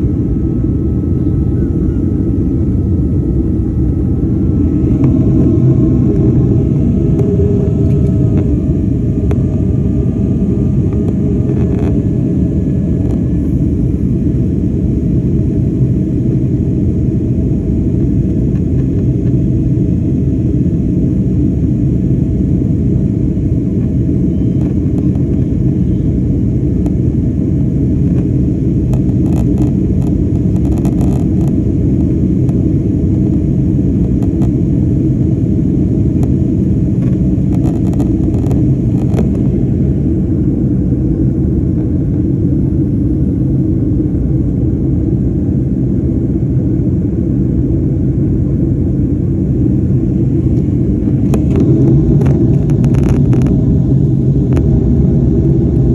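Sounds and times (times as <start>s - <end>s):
vehicle rumble from inside: 0.0s - 16.0s, 22.3s - 55.9s.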